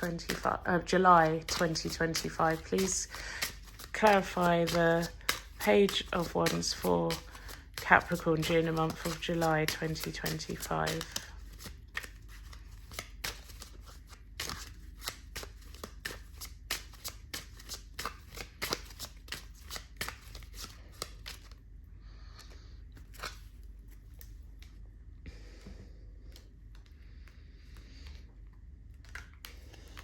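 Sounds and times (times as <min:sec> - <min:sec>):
cards being shuffled: 0:00.0 - 0:21.6, 0:22.4 - 0:24.8, 0:28.8 - 0:30.0.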